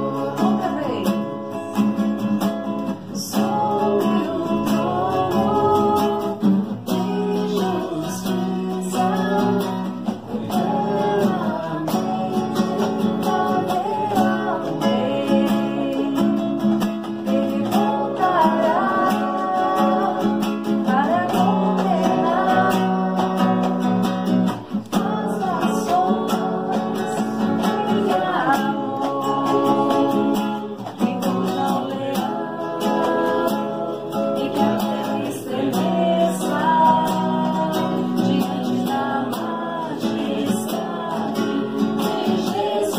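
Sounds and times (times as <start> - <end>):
acoustic guitar strumming: 0.0 - 42.9
person singing: 0.0 - 42.9.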